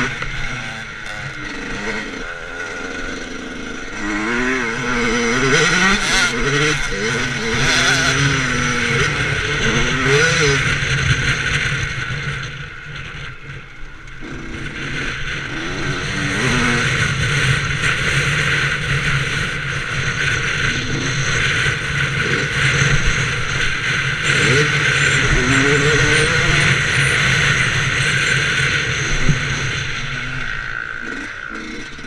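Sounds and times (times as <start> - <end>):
two-stroke engine revving: 0.0 - 12.6, 14.1 - 32.0.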